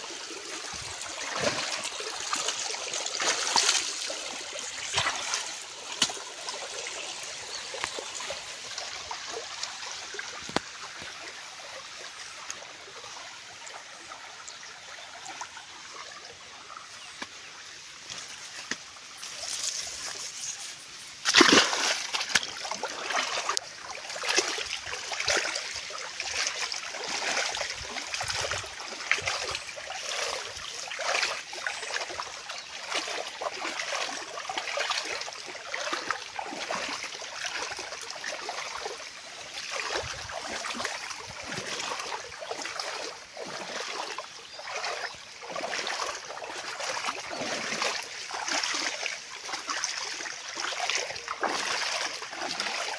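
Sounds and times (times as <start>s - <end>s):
water flowing and splashing: 0.0s - 52.9s.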